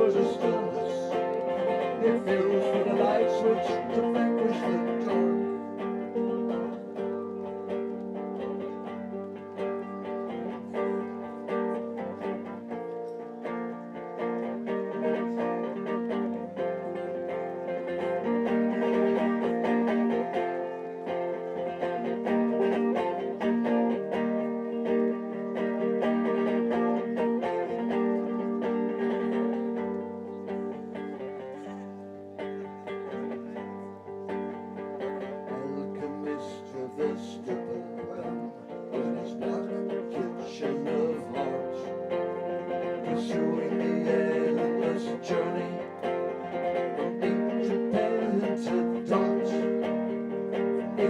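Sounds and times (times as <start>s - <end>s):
acoustic guitar plucked and strummed: 0.0s - 51.0s.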